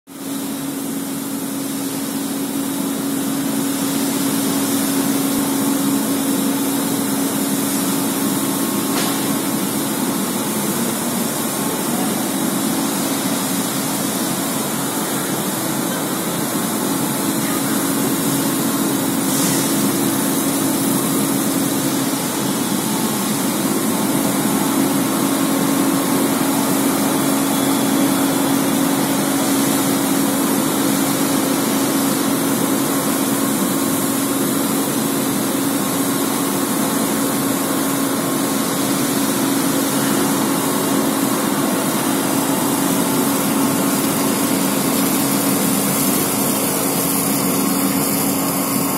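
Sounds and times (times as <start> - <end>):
lamination machine humming and hissing: 0.1 - 48.9.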